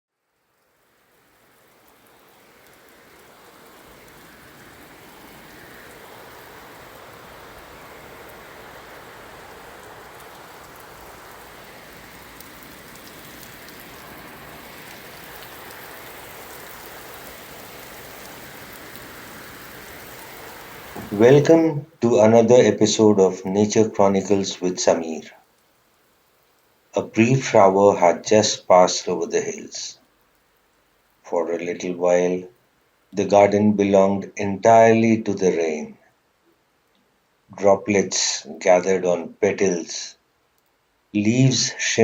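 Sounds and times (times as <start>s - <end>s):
steady rain falling: 0.1s - 42.0s
ticks of raindrops: 0.2s - 38.8s, 39.7s - 42.0s.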